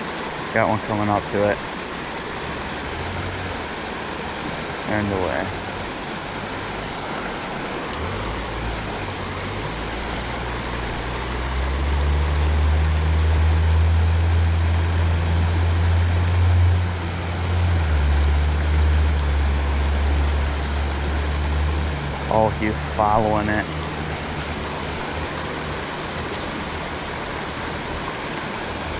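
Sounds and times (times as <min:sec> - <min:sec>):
creek rushing over rocks: 0:00.0 - 0:28.9
low steady hum: 0:00.0 - 0:28.9.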